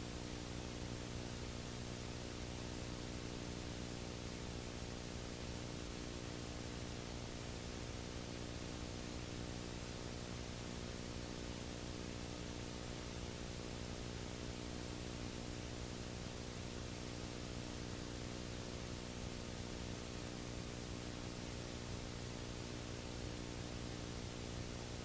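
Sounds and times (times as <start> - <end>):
constant hiss: 0.0 - 25.0
electrical hum: 0.0 - 25.0.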